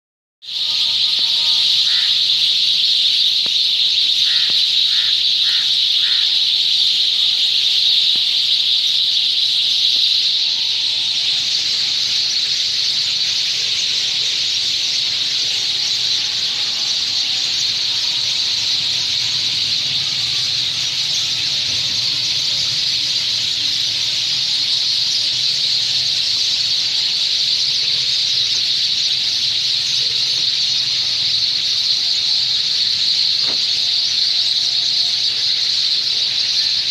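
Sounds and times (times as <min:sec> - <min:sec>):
flock of sparrows chirping: 0:00.4 - 0:36.9.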